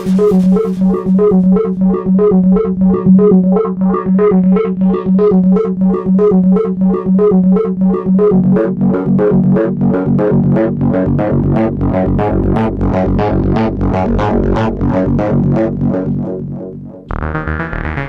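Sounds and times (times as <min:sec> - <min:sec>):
synthesizer quick repeating notes: 0:00.0 - 0:16.0
pulsing synth bass note: 0:00.0 - 0:18.0.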